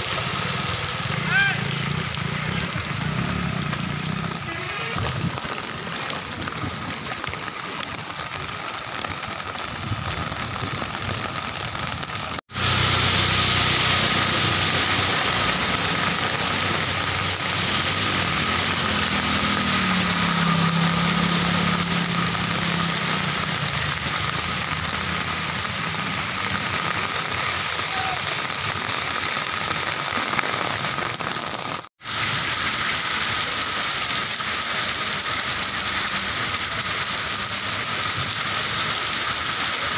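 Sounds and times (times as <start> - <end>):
heavy rain on flooded street: 0.0 - 39.9
vehicle engine passing through water: 0.0 - 39.9.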